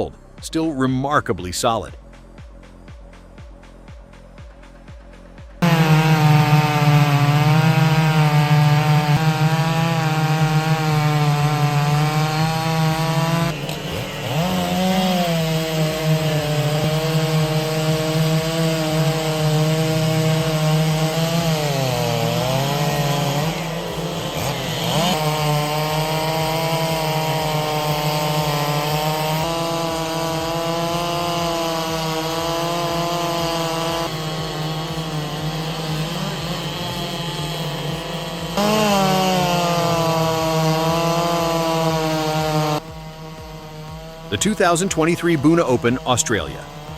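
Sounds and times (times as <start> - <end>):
chainsaw cutting wood: 1.9 - 46.9.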